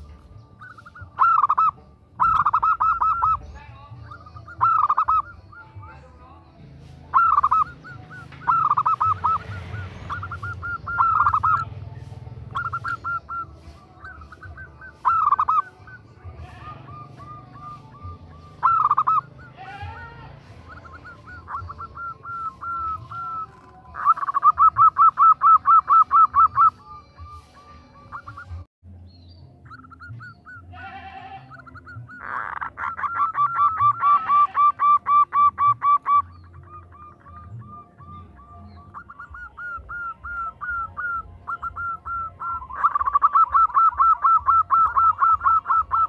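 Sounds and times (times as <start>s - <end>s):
dove cooing: 0.0s - 5.9s, 7.0s - 28.7s, 31.5s - 46.0s.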